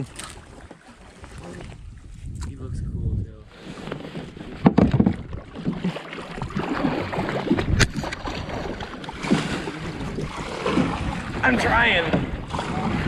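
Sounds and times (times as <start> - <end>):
water splashing around a kayak: 0.0 - 2.8, 3.4 - 13.0.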